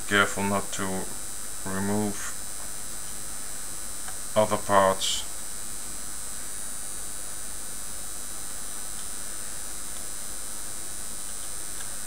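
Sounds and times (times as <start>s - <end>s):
electrical hum: 0.0s - 12.0s
high hiss: 0.0s - 12.0s.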